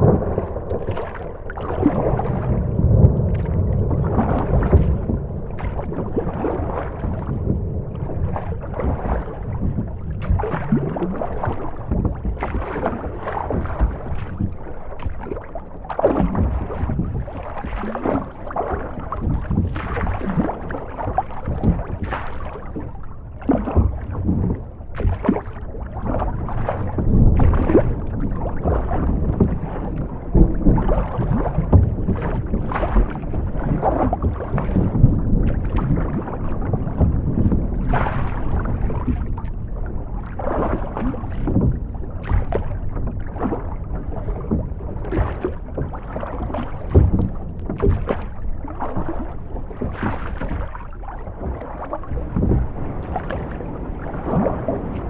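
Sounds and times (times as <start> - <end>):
constant low rumble: 0.0 - 55.0
water slapping against hull: 0.0 - 55.0.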